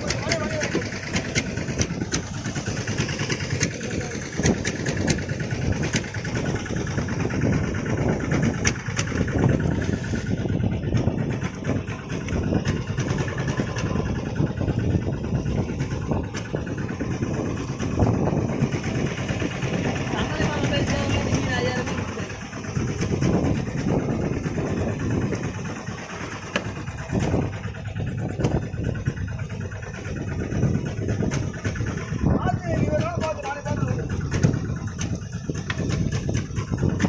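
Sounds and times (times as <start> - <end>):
engine running roughly: 0.0 - 37.0.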